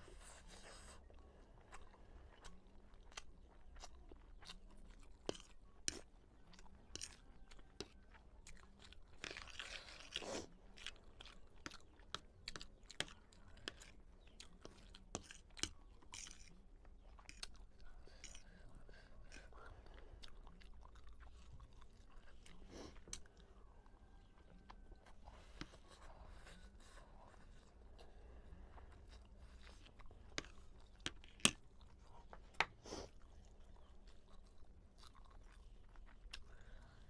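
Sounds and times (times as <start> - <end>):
chewing with mouth clicks: 0.2 - 37.0.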